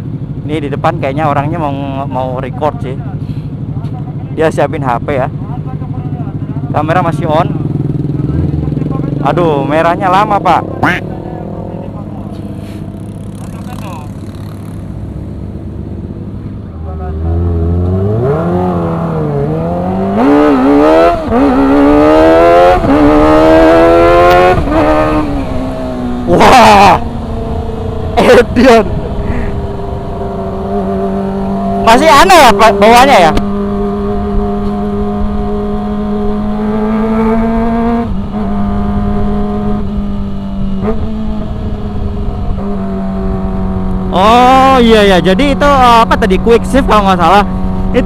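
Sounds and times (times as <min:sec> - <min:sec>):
motorcycle engine accelerating: 0:00.0 - 0:48.0
wind and road noise: 0:00.0 - 0:48.0.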